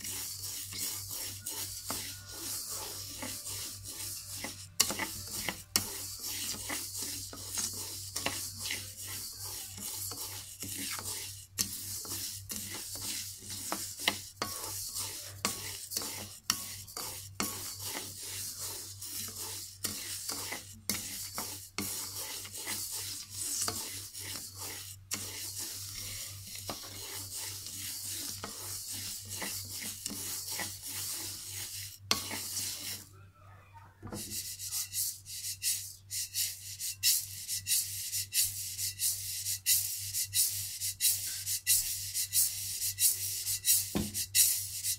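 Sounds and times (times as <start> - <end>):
wooden paddle scraping rice in wok: 0.0 - 33.1, 34.0 - 44.9.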